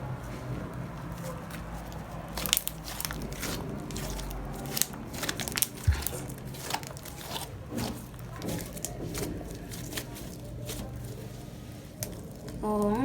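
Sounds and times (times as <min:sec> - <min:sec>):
slime being stirred: 0:00.5 - 0:13.0
sticky clicks and crackling pops: 0:01.2 - 0:13.0.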